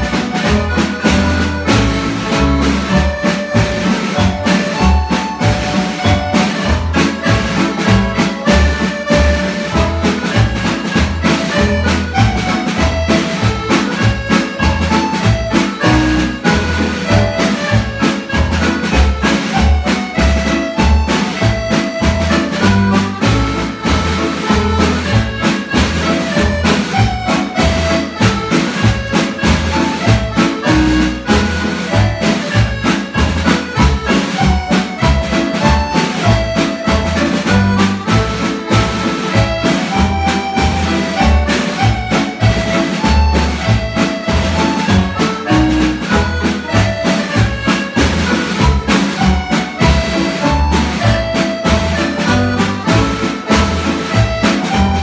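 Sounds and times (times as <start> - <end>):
accordion duet playing marches: 0.0 - 55.0.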